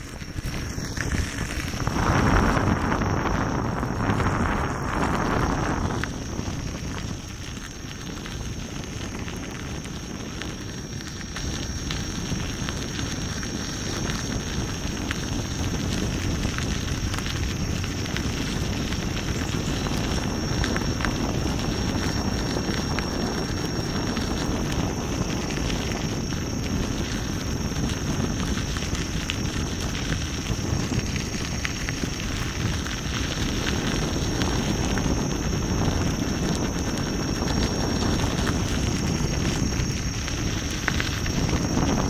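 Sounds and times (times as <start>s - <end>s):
faint high whine: 0.0s - 42.0s
tyre rolling on gravel: 0.0s - 42.0s
wind buffeting microphone: 0.0s - 42.0s.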